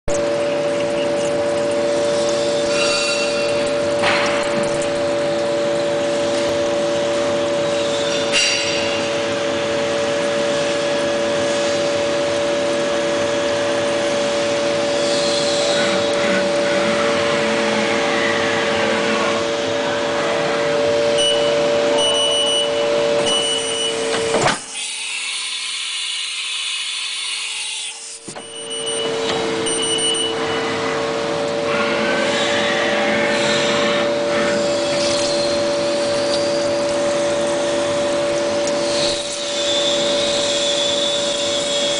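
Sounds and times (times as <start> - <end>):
machine spindle whine: 0.1 - 41.9.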